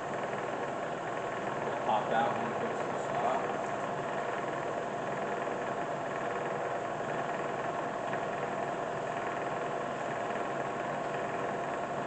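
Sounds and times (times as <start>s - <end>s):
milling machine humming and whining: 0.0s - 12.0s.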